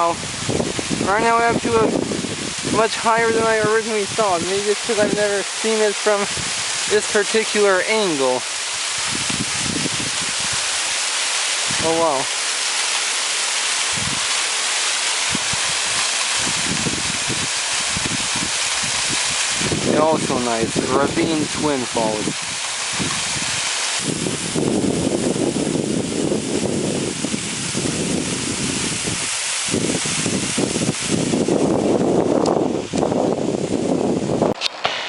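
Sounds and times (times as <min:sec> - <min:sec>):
wind buffeting microphone: 0:00.0 - 0:11.0, 0:11.6 - 0:12.3, 0:13.8 - 0:14.4, 0:15.2 - 0:34.6
waterfall rushing: 0:00.0 - 0:35.0.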